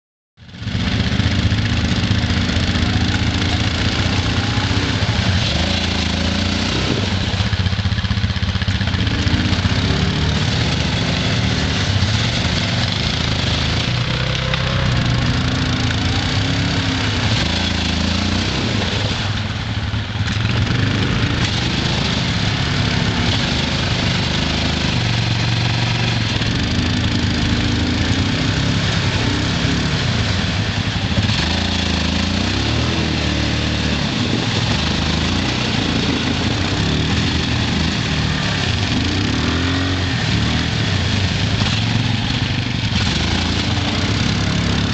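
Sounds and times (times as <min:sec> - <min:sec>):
quad engine revving: 0:00.4 - 0:44.9.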